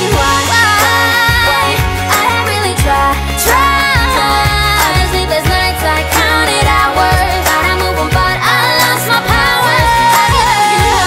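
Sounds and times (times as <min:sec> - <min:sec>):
pop music: 0:00.0 - 0:11.0.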